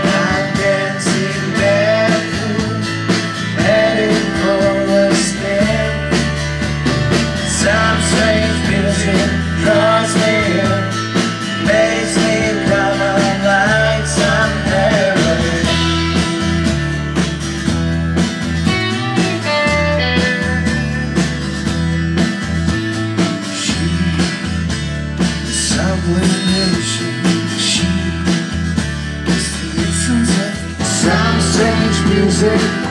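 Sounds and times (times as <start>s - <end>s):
bass and drums: 0.0s - 32.9s
bending lead guitar line: 0.0s - 32.9s
electric and acoustic guitars: 0.0s - 32.9s.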